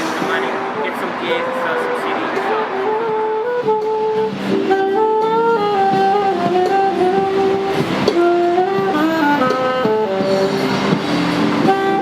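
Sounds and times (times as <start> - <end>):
saxophone playing jazzy melody: 0.0 - 12.0.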